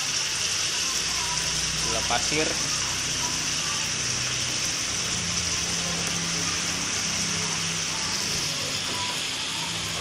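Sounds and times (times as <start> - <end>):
food frying in a pan: 0.0 - 10.0.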